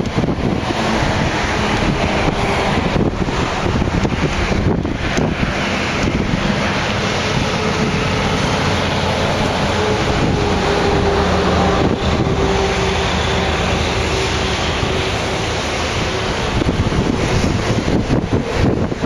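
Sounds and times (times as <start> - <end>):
freight train rumbling past: 0.0 - 19.0
wind buffeting microphone: 0.0 - 19.0.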